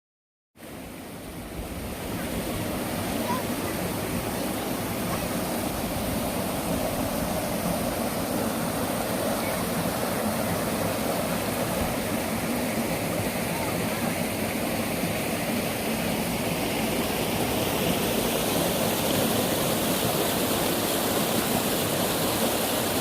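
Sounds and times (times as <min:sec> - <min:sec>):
stream water rushing over rock: 0:00.6 - 0:23.0.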